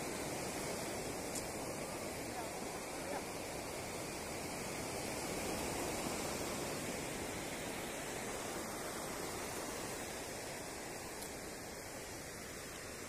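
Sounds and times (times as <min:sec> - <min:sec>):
waves washing on beach: 0:00.0 - 0:13.0.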